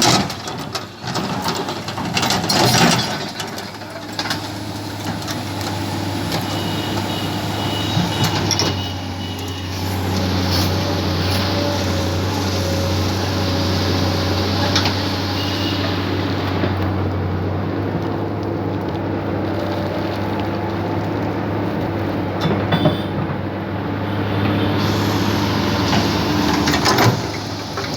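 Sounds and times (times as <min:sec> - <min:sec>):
heavy diesel engines droning: 0:00.0 - 0:27.9.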